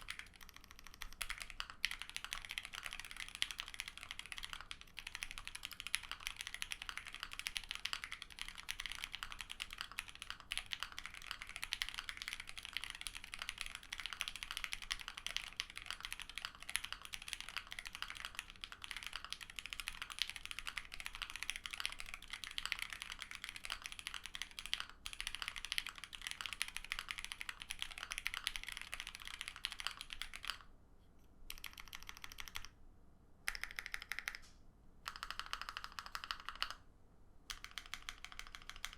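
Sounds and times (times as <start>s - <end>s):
fast mechanical keyboard typing: 0.0s - 30.6s, 31.5s - 32.7s, 33.5s - 34.4s, 35.1s - 36.8s, 37.5s - 38.9s.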